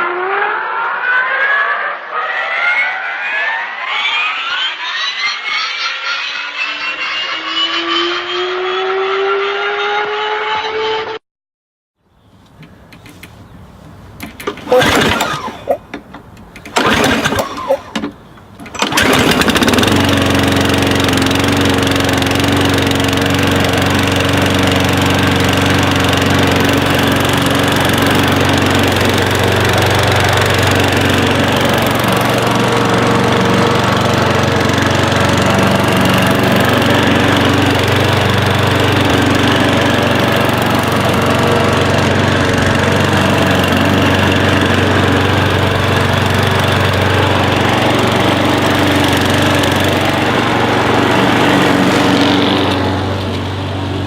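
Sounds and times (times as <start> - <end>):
small engine running: 2.6 - 11.2, 14.2 - 54.0.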